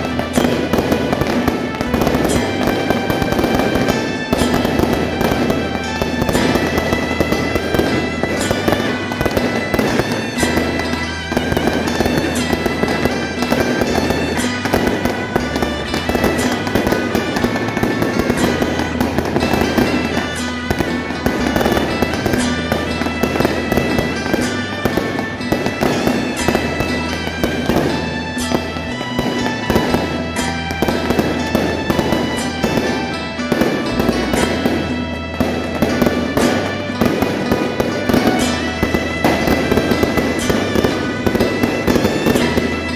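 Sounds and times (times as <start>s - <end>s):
firecracker bangs crackling: 0.0s - 42.9s
music: 0.0s - 42.9s.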